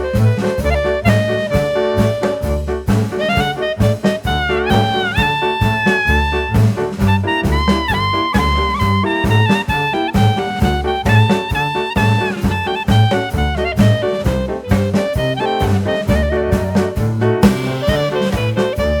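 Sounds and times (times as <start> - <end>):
horn melody: 0.0 - 19.0
jazzy instrumental music: 0.0 - 19.0.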